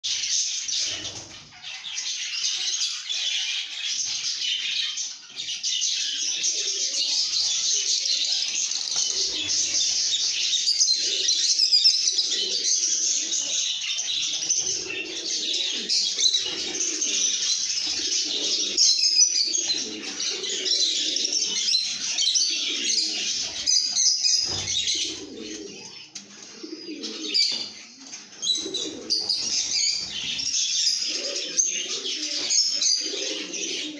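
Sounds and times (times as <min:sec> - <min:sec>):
lovebirds chirping and chattering: 0:00.0 - 0:33.9.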